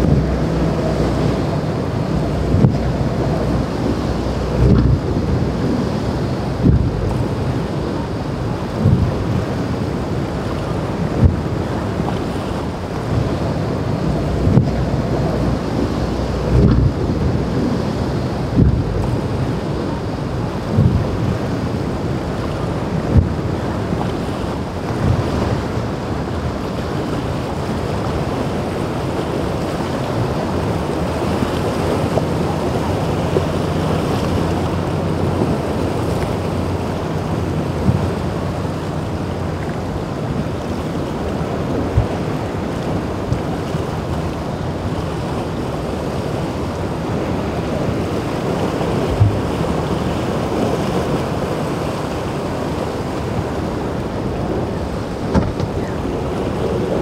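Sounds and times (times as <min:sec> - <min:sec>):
boat wake rushing: 0:00.0 - 0:57.0
low engine drone: 0:00.0 - 0:57.0
surf rushing and breaking: 0:00.0 - 0:57.0
wind buffeting microphone: 0:00.0 - 0:57.0.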